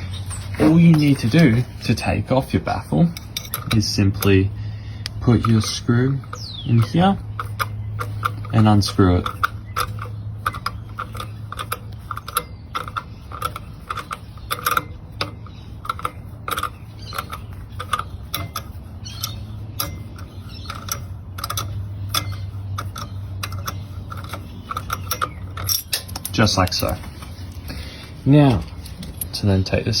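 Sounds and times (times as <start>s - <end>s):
small metallic clicks: 0.0s - 29.5s
low steady hum: 0.0s - 30.0s.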